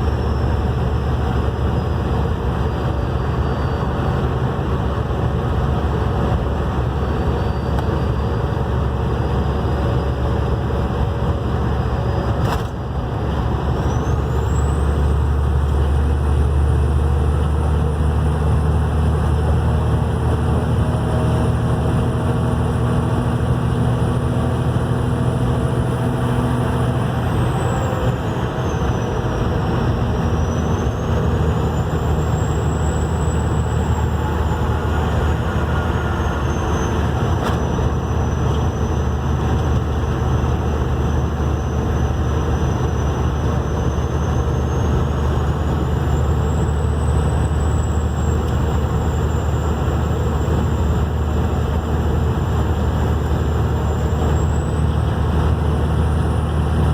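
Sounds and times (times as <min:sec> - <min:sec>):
low engine drone: 0:00.0 - 0:56.9.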